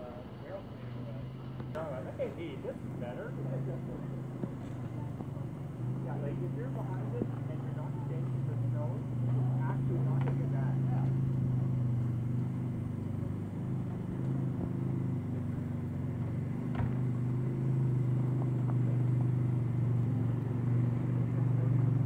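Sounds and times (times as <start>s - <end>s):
steam engine mechanical drone: 0.0s - 22.0s.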